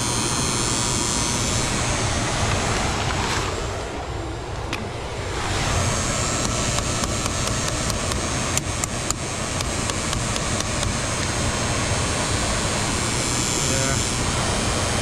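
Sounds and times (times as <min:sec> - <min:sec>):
blower motor whooshing: 0:00.0 - 0:15.0.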